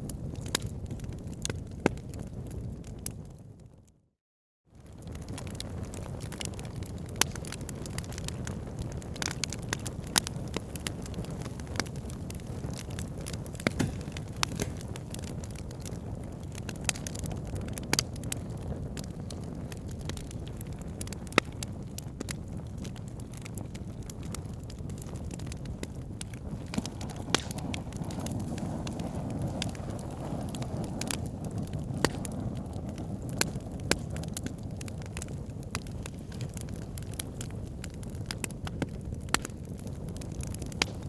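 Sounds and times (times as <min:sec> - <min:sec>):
fire burning in fireplace: 0:00.0 - 0:04.0, 0:04.7 - 0:41.0
fire crackles and pops: 0:00.0 - 0:04.0, 0:04.7 - 0:41.0.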